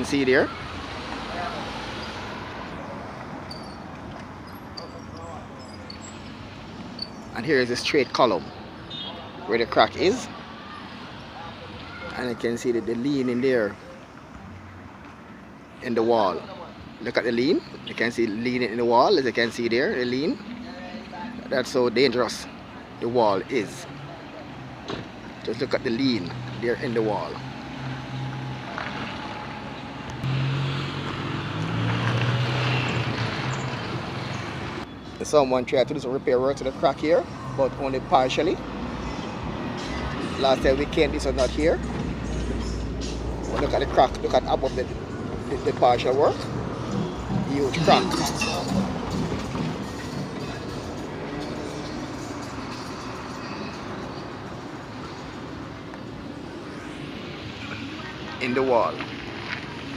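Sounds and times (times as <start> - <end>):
distant traffic rumble: 0.0 - 59.9.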